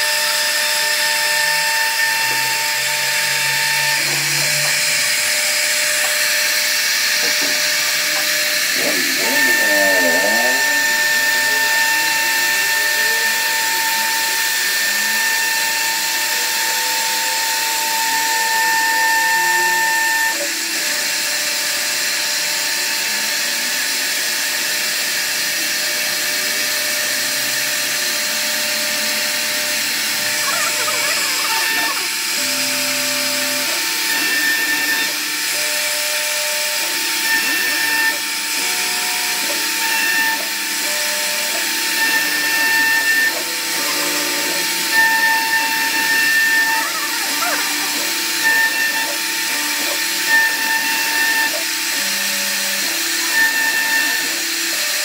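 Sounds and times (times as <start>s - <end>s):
cnc router whining: 0.0s - 55.0s.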